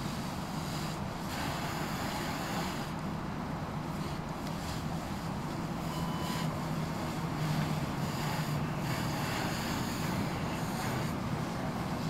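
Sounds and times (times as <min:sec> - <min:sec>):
fire hose spraying water: 0:00.0 - 0:03.2, 0:03.8 - 0:12.0
low engine hum: 0:00.0 - 0:12.0.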